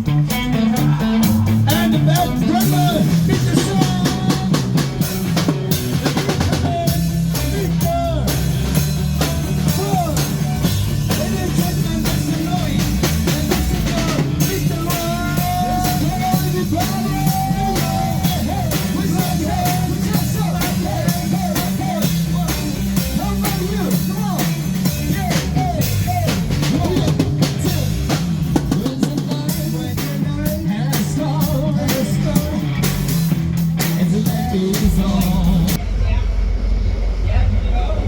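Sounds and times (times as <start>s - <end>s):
live rock band playing: 0.0s - 36.5s
drum kit beat: 0.0s - 36.9s.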